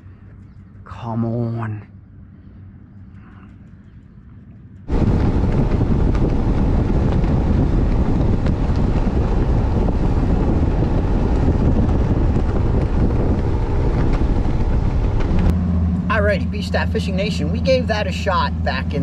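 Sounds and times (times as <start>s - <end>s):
outboard motor running: 2.3s - 19.0s
wind buffeting microphone: 2.7s - 19.0s.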